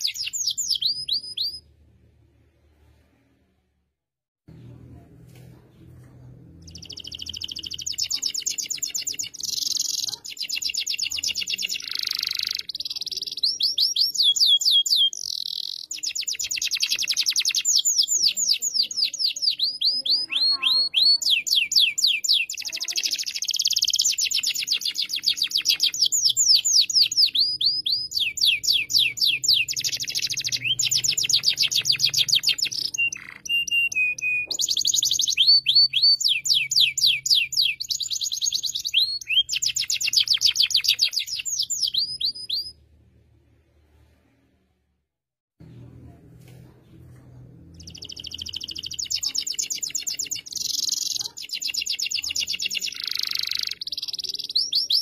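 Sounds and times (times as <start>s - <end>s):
canary singing trills: 0.0s - 1.6s, 6.6s - 42.8s, 47.7s - 55.0s.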